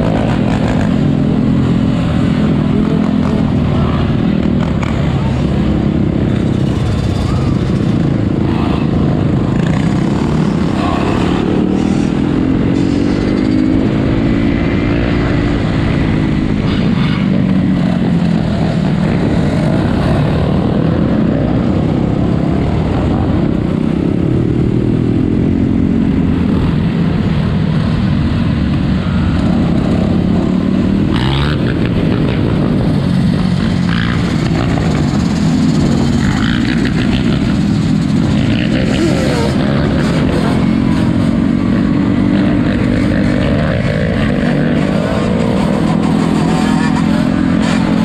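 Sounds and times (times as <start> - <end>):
atv engines revving: 0.0 - 48.0.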